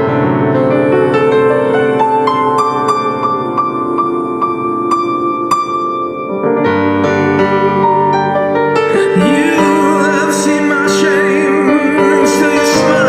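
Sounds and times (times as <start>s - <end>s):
piano repeated notes: 0.0s - 13.0s.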